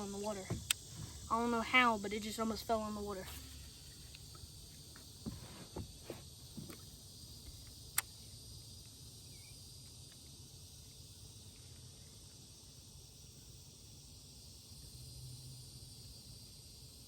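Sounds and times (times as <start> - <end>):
faint insect chorus: 0.0 - 17.0.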